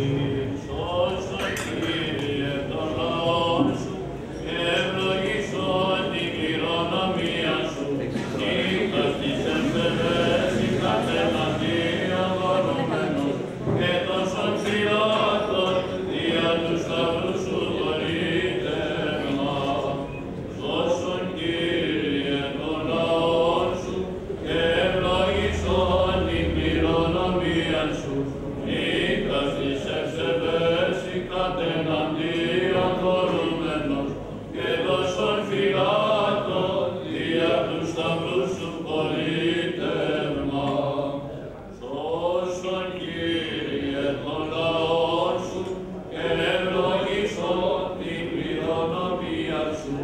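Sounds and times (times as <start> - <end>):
clergy chanting: 0.0 - 50.0.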